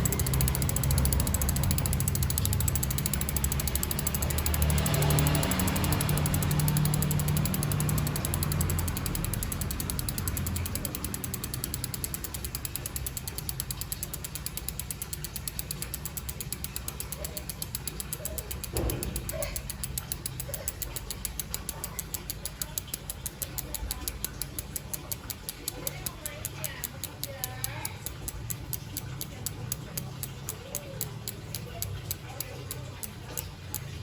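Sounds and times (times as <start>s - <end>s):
bike freehub ratcheting buzz: 0.0s - 34.0s.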